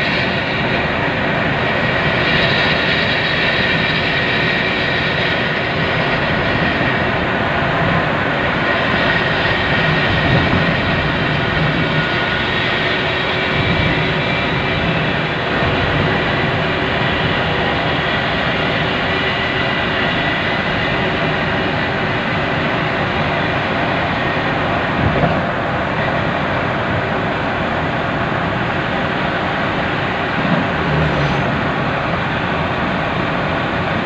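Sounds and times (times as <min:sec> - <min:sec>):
car road and tyre noise: 0:00.0 - 0:34.0.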